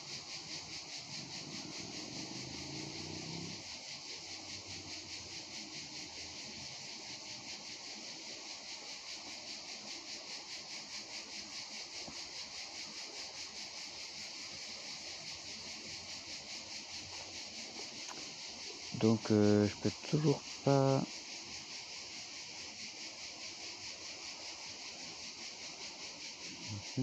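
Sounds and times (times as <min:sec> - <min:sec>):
high-pitched insect chorus: 0:00.0 - 0:27.0.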